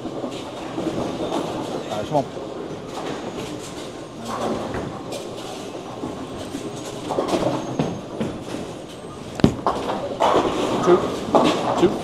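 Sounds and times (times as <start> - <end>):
bowling balls rolling: 0.0 - 12.0
bowling pins clattering: 0.0 - 12.0.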